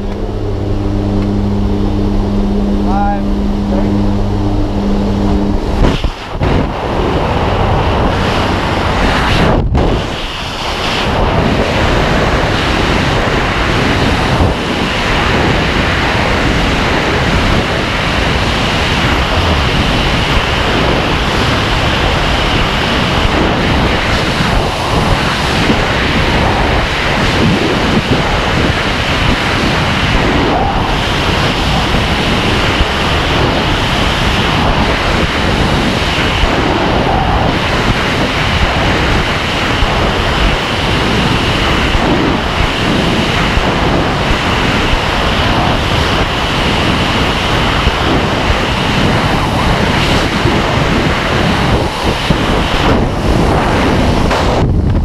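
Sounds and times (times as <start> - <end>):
airplane engine drone: 0.0 - 55.0
wind roaring over microphone: 0.0 - 55.0.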